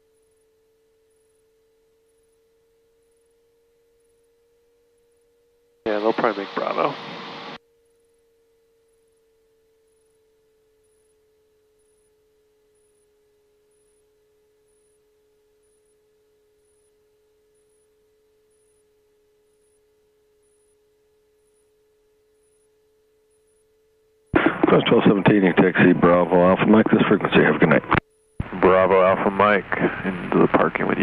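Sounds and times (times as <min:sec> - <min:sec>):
faint steady tone: 0:00.0 - 0:31.0.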